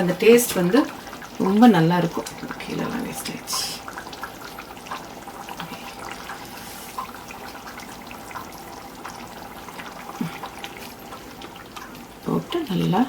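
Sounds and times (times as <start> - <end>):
thick stew bubbling and popping: 0.0 - 13.0.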